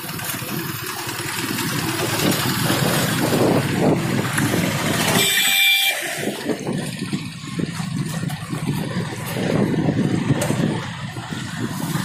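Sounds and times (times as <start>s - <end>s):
motorcycle engine running: 0.0s - 12.0s
wind buffeting microphone: 1.4s - 12.0s.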